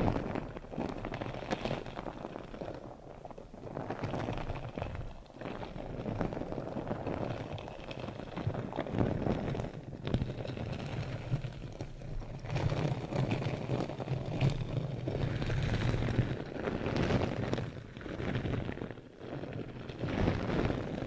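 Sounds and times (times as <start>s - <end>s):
crackly rustling and scratching: 0.0s - 21.0s.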